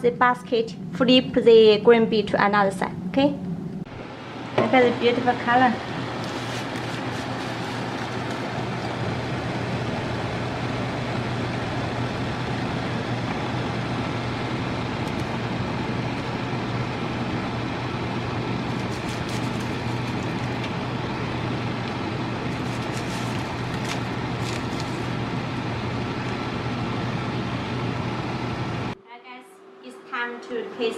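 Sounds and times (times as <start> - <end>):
air fryer fan whooshing: 2.9 - 29.0.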